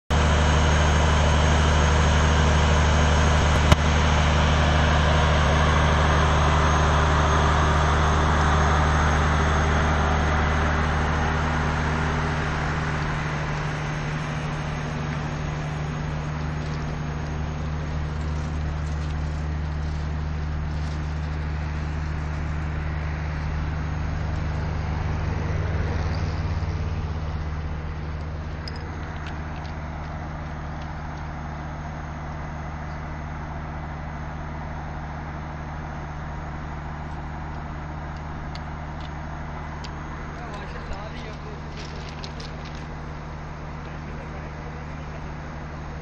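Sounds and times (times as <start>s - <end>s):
diesel locomotive idling: 0.1s - 46.0s.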